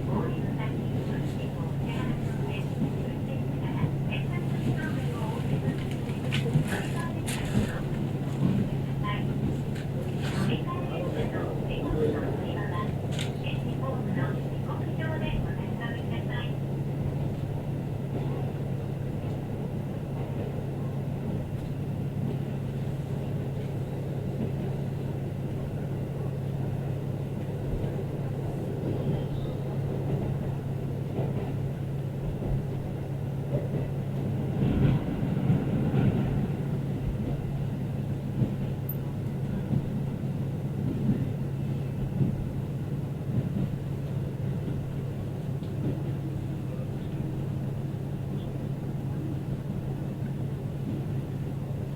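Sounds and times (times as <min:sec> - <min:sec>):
railcar hum and rumble: 0:00.0 - 0:51.9.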